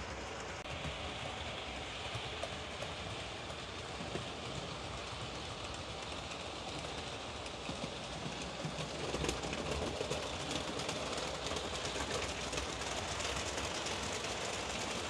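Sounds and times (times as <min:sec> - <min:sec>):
model train rumbling: 0:00.0 - 0:15.0
wheels clicking on rail joints: 0:00.0 - 0:15.0.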